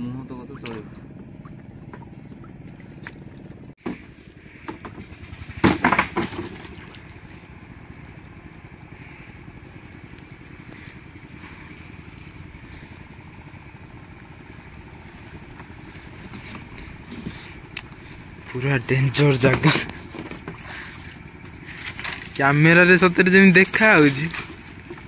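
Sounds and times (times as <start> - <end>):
boat moving through water: 0.0 - 25.0.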